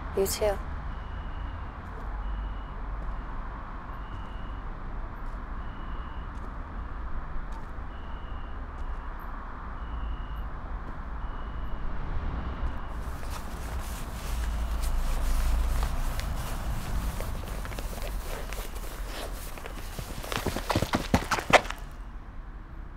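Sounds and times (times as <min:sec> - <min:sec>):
low rumble of distant traffic: 0:00.0 - 0:22.9.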